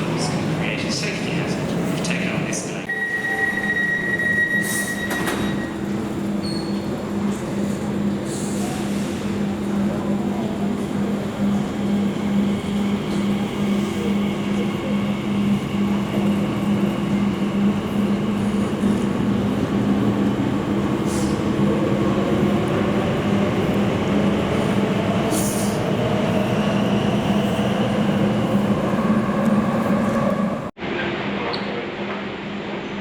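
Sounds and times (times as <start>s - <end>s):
electric train humming: 0.0s - 30.8s.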